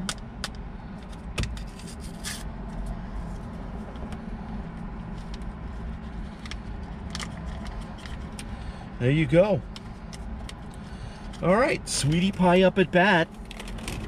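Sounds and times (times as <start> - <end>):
car cabin hum: 0.0 - 14.0.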